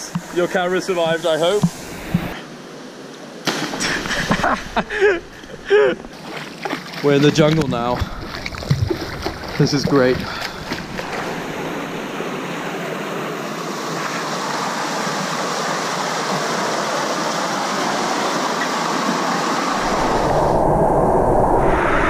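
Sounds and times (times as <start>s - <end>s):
fast stream rushing: 0.0s - 20.7s.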